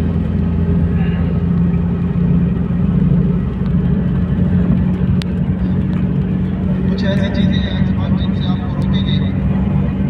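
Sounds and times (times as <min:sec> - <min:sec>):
constant low hum: 0:00.0 - 0:10.0
engine drone: 0:00.0 - 0:10.0
road rumble: 0:00.0 - 0:10.0.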